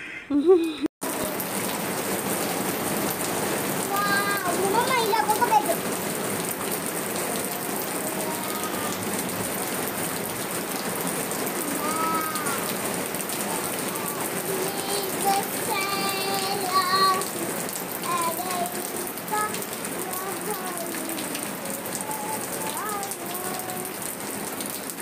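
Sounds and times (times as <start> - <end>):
rain on concrete: 1.0 - 25.0.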